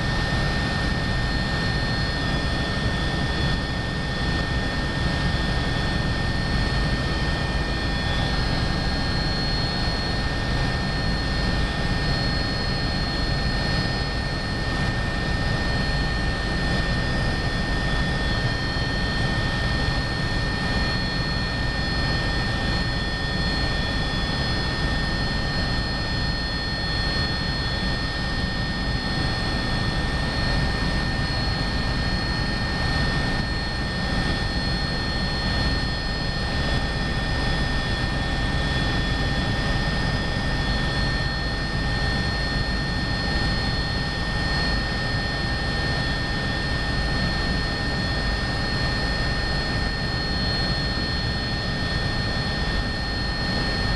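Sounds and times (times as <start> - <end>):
helicopter engine rumble: 0.0 - 53.9
high engine whine: 0.0 - 53.9.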